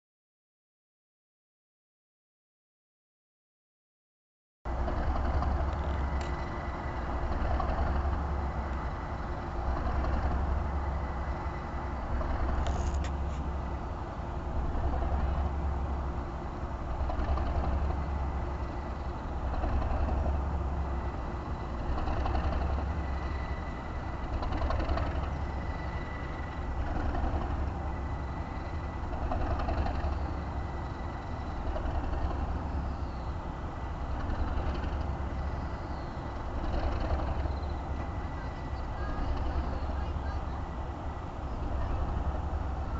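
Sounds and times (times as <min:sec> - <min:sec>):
diesel locomotive engine idling: 0:04.7 - 0:42.9.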